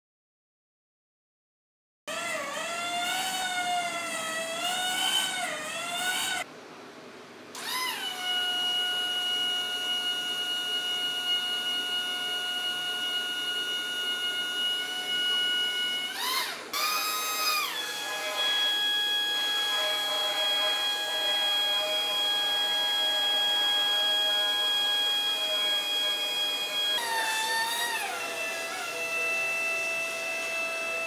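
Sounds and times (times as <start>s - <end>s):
motor whining: 2.1s - 6.5s, 7.6s - 31.0s.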